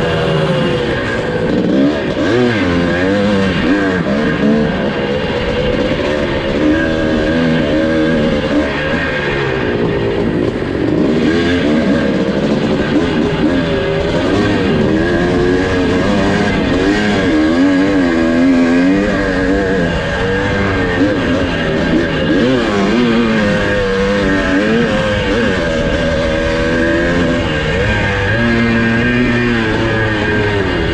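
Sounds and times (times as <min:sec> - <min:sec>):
two-stroke engine revving: 0:00.0 - 0:30.9.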